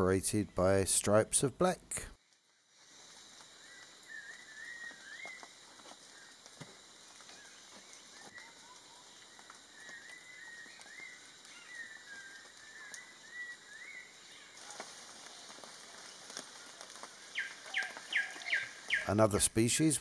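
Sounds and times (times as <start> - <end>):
steady high hiss: 0.0 - 20.0
bird calls and twittering: 2.5 - 19.4.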